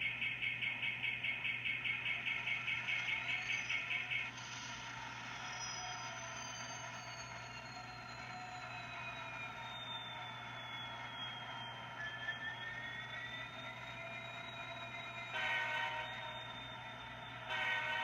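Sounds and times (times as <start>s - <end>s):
engine whine: 1.8s - 18.0s.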